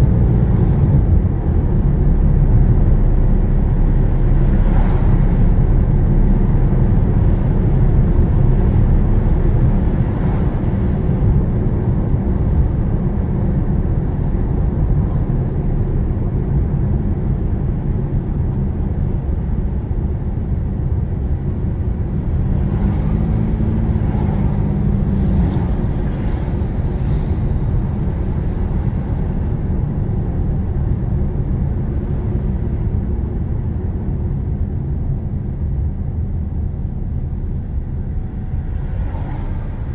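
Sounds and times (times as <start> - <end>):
car engine and road noise: 0.0 - 39.9
faint hum: 0.0 - 39.9.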